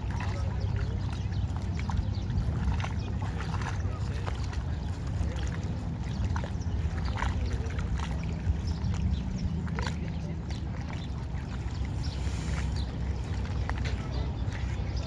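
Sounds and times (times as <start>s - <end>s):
bird calls: 0.0s - 15.0s
small waves lapping at shore: 0.0s - 15.0s
wind rumble on microphone: 0.0s - 15.0s.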